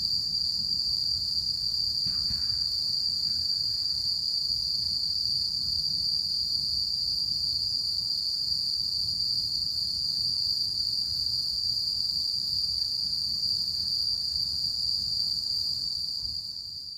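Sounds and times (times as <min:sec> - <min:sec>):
insects trilling in chorus: 0:00.0 - 0:16.9.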